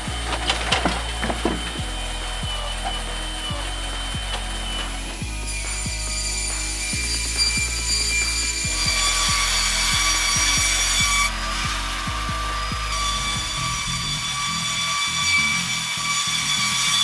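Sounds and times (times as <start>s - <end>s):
sawmill saw cutting log: 0.0s - 17.0s.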